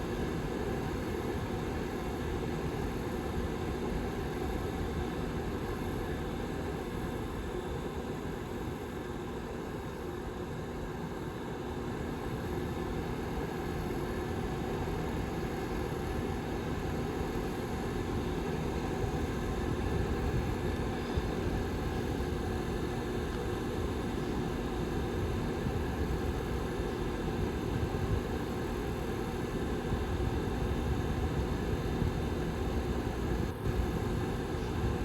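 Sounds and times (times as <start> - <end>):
heater fan rushing air: 0.0 - 35.0.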